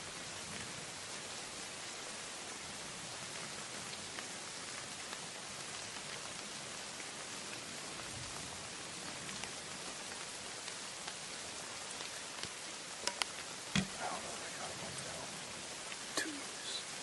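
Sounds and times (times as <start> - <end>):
rain falling on forest: 0.0 - 17.0.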